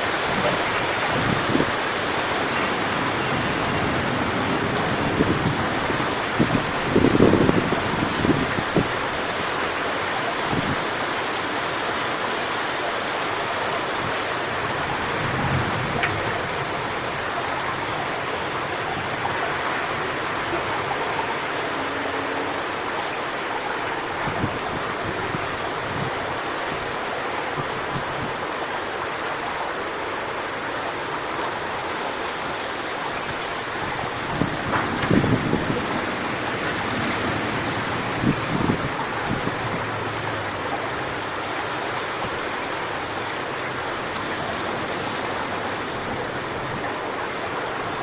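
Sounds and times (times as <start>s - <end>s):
wind gusts buffeting microphone: 0.0s - 11.6s, 13.6s - 22.0s, 22.7s - 28.6s, 31.4s - 48.0s
wind through palm fronds: 0.0s - 48.0s.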